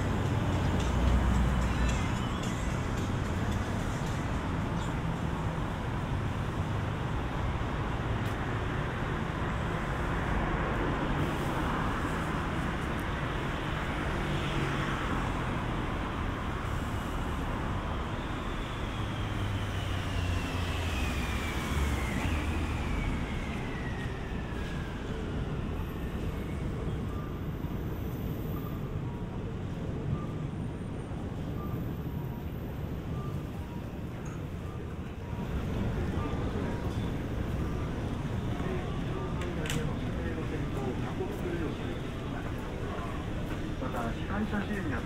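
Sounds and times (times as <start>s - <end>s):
traffic on a wet street: 0.0s - 45.0s.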